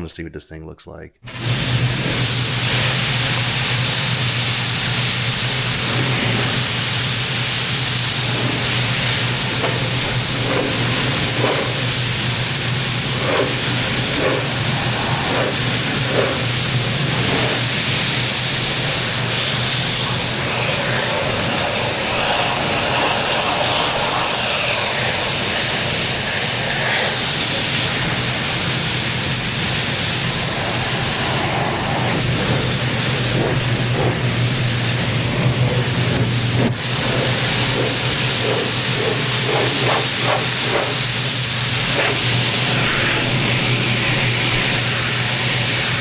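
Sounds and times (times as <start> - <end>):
pressure washer spraying: 1.3 - 46.0
motor humming: 5.4 - 45.8.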